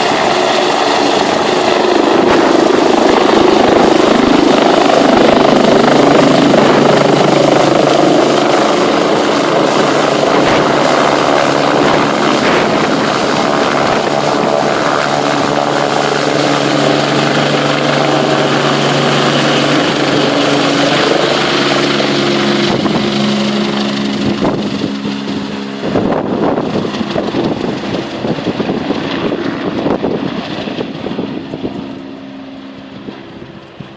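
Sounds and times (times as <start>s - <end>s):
helicopter rotor and turbine: 0.0s - 33.9s.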